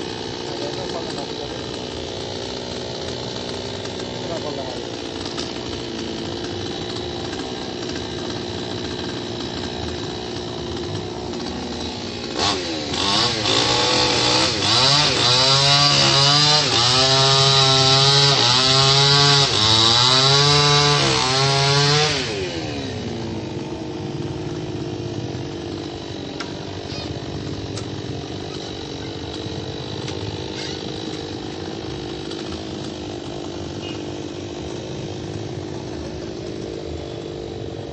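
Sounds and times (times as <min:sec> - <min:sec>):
chainsaw engine revving: 0:00.0 - 0:37.9.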